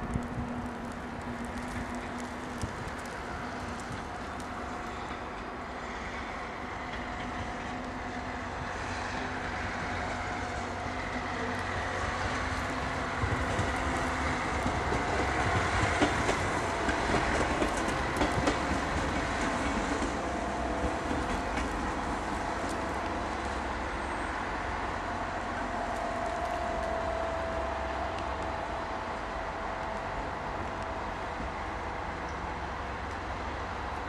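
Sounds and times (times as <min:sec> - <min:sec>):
railcar motor hum: 0:00.0 - 0:34.0
wheels clicking over rail joints: 0:00.0 - 0:34.0.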